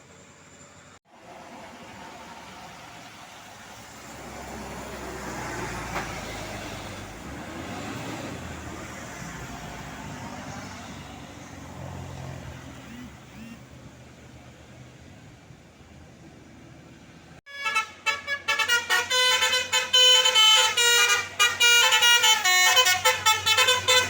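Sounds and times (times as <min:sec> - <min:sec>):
vehicle passing on road: 0:00.0 - 0:17.4, 0:18.7 - 0:24.0.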